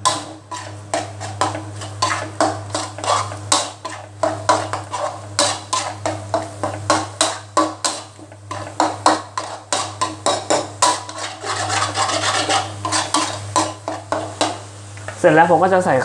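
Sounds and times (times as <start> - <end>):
metal spatula scraping a wok: 0.0 - 14.7.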